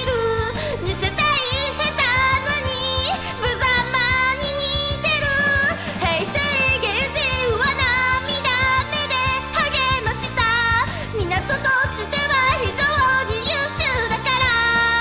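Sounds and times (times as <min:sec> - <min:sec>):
pop backing track: 0:00.0 - 0:15.0
woman singing pop song: 0:00.0 - 0:15.0.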